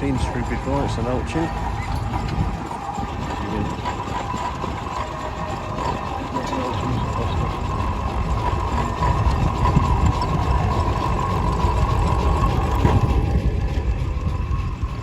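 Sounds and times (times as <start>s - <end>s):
heavy low rumble: 0.0s - 15.0s
machine whine: 0.0s - 15.0s.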